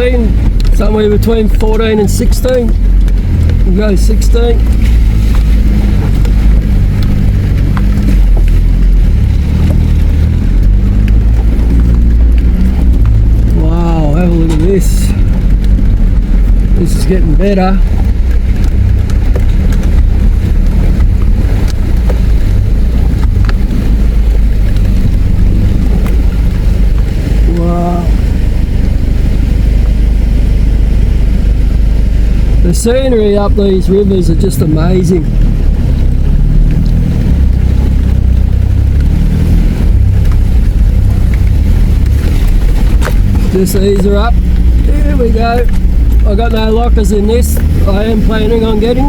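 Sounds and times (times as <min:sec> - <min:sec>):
vehicle engine and tyres rumbling: 0:00.0 - 0:49.0.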